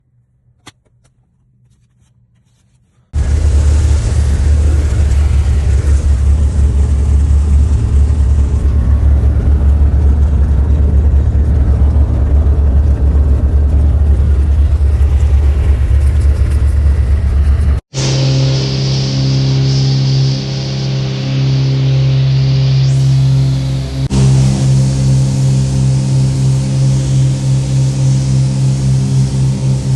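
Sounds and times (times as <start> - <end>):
light aircraft engine drone: 3.2 - 29.9.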